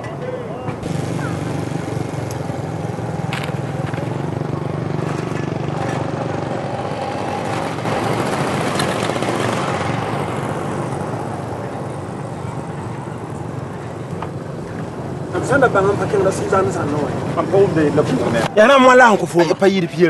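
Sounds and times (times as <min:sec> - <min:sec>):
engine running: 0:00.7 - 0:18.6.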